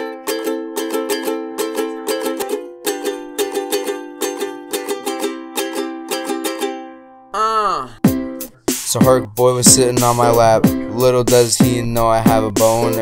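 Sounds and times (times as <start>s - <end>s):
ukulele strumming chords: 0.0s - 7.3s, 8.0s - 13.0s.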